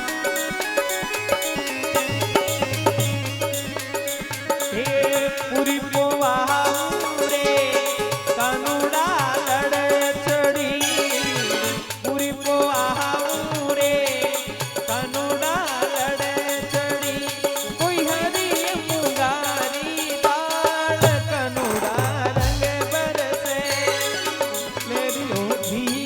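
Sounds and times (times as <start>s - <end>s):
folk devotional song: 0.0s - 26.0s
hand percussion: 0.0s - 26.0s.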